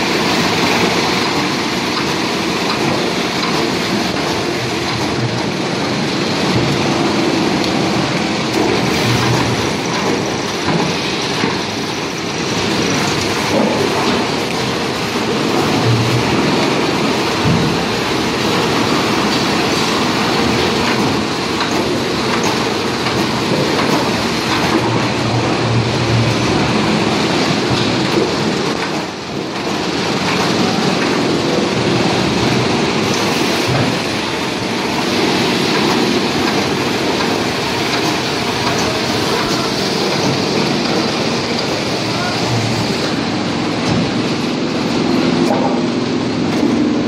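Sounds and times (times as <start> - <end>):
mill machinery din: 0.0 - 47.0.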